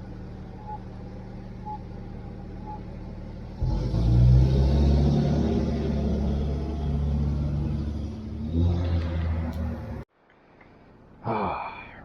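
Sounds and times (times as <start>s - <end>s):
vehicle and road rumble: 0.0s - 11.2s.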